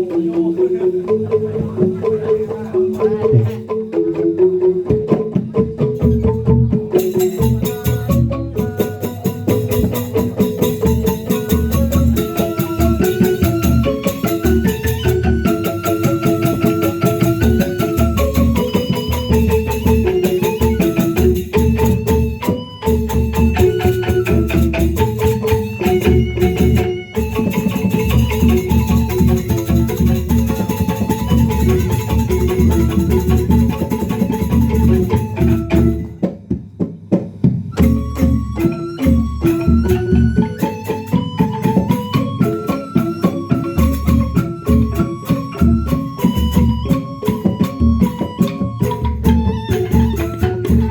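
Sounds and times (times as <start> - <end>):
mallet instruments melody: 0.0 - 36.5, 37.7 - 50.9
fast percussion beat: 0.0 - 50.9.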